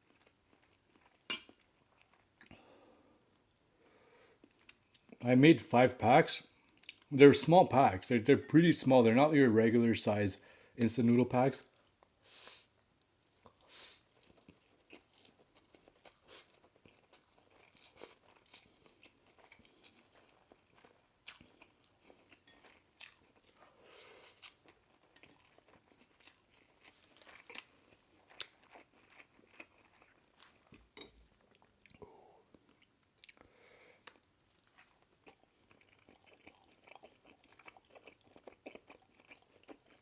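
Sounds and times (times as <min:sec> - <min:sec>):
person chewing food: 0:00.0 - 0:03.7, 0:04.3 - 0:05.2, 0:06.5 - 0:07.1, 0:11.7 - 0:40.0.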